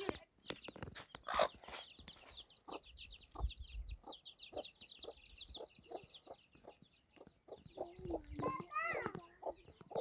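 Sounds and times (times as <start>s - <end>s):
chickens clucking: 0.0s - 10.0s
high chirping: 0.0s - 10.0s.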